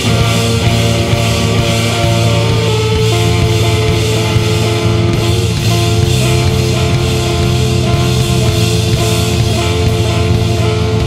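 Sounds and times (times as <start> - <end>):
drum kit with cymbals: 0.0 - 11.0
electric bass: 0.0 - 11.0
electric guitar: 0.0 - 11.0.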